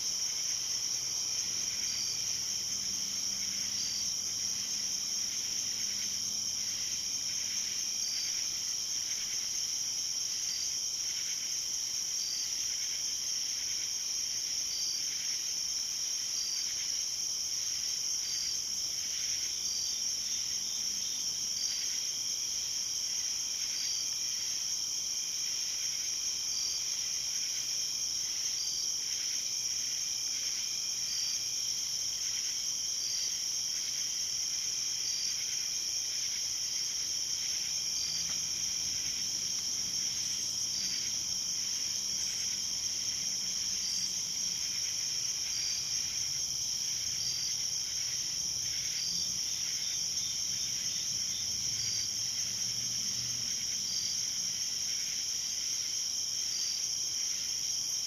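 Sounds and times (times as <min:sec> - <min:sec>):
faint steady insect tones: 0:00.0 - 0:58.0
insects trilling: 0:00.0 - 0:58.0.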